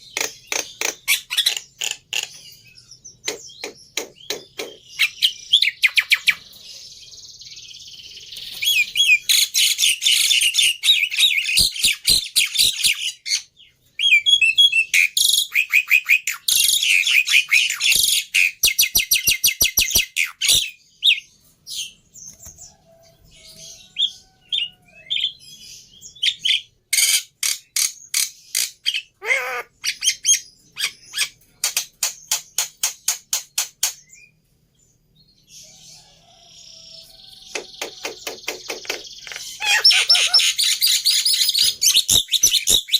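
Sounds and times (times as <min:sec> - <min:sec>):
starling singing: 0:00.0 - 0:06.6, 0:07.8 - 0:22.4, 0:23.0 - 0:32.6, 0:35.6 - 0:42.9.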